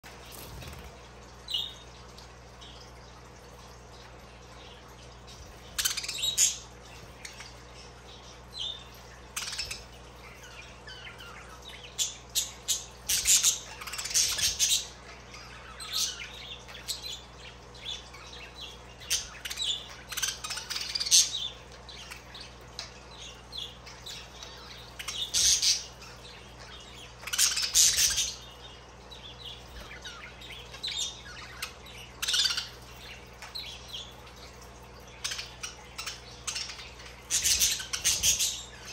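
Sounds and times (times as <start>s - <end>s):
budgies chirping: 4.5s - 38.9s.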